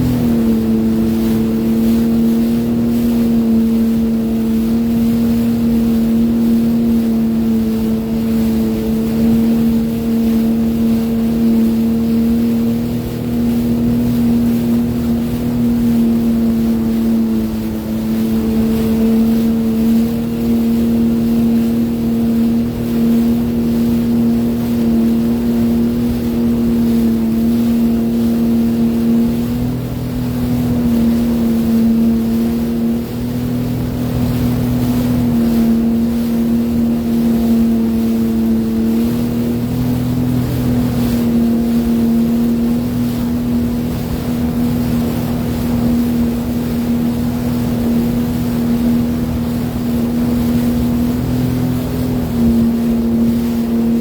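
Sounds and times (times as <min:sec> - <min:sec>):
water rushing past hull: 0:00.0 - 0:54.0
watercraft engine running: 0:00.0 - 0:54.0.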